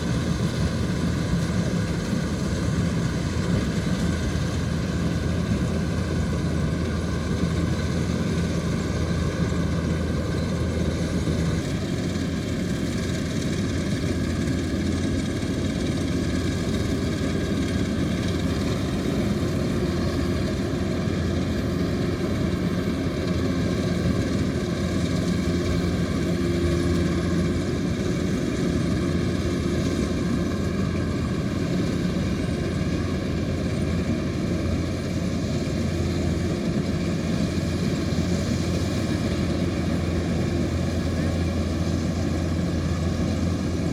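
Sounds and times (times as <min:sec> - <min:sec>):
combine harvester diesel engine drone: 0:00.0 - 0:43.9.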